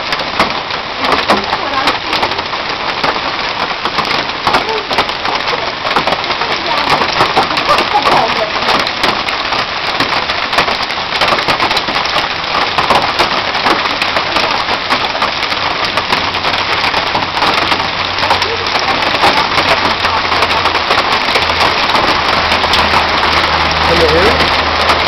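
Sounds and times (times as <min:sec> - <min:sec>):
hailstones clattering: 0:00.0 - 0:25.0
heavy rain pelting down: 0:00.0 - 0:25.0.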